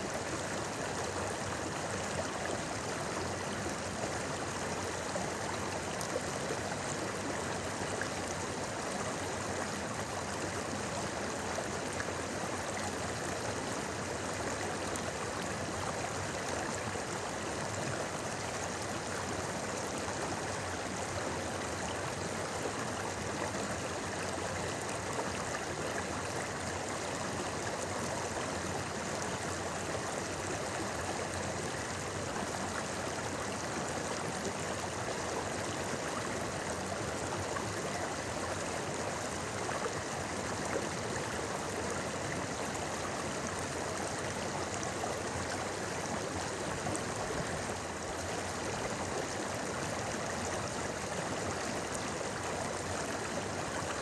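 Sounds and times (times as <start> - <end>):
river babbling: 0.0 - 54.0.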